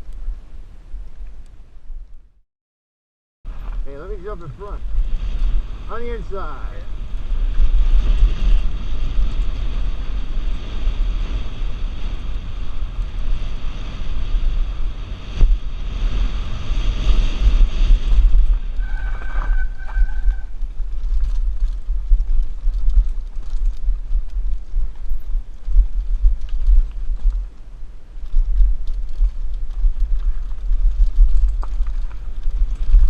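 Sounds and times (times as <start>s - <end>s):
bike rattling over rough trail: 3.5s - 33.0s
wind buffeting a camera: 3.5s - 33.0s.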